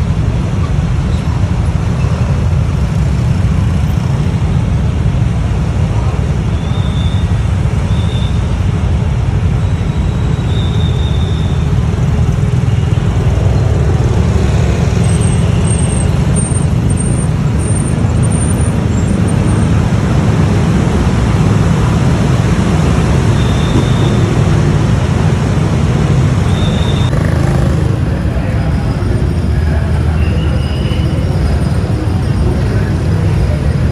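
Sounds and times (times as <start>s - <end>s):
motorbike engine rumble: 0.0s - 33.9s
road and air noise: 0.0s - 33.9s.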